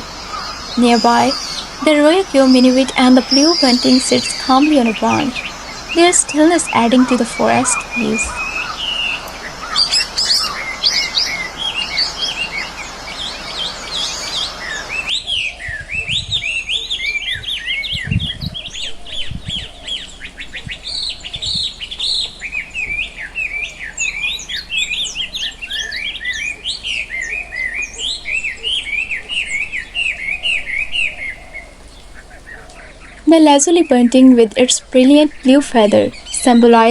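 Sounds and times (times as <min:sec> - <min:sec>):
songbirds chirping: 0:00.0 - 0:36.9.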